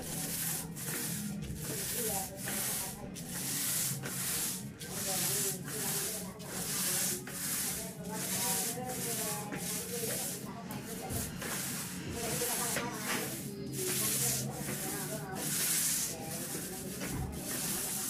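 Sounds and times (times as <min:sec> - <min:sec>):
paint roller rubbing hiss: 0:00.0 - 0:18.0.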